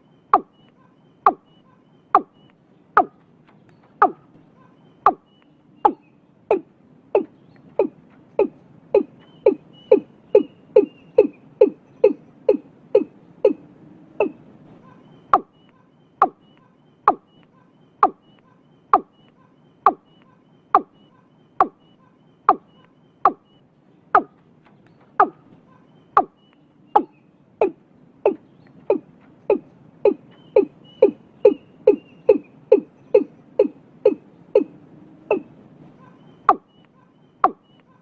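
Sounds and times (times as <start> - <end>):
bird hollow falling calls: 0.0 - 38.0
faint high chirps: 0.0 - 38.0.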